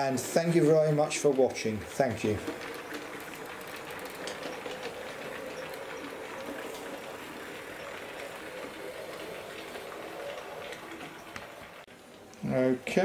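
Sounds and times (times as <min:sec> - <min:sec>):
wheels clicking over rails: 0:00.0 - 0:13.0.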